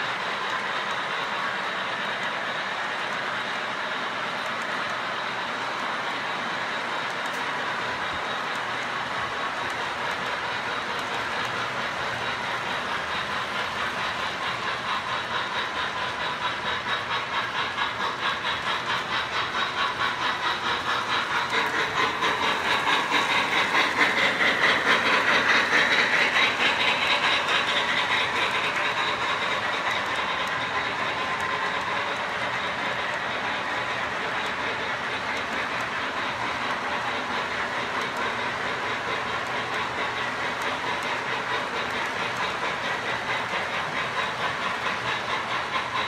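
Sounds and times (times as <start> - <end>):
fast rhythmic steam chuffing: 0.0 - 46.0
model train cars rumbling: 0.0 - 46.0.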